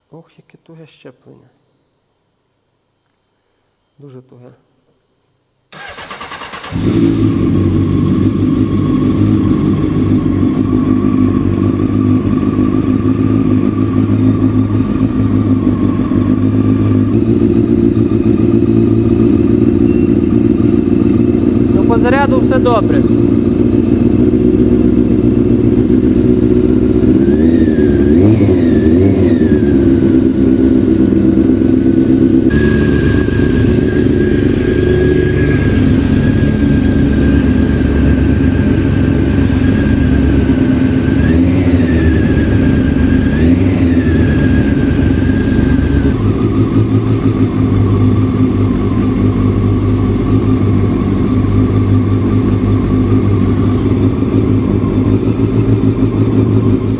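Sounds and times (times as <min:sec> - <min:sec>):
engine throttle blips: 0:05.7 - 0:56.9
motorcycle engine idling: 0:05.8 - 0:56.9.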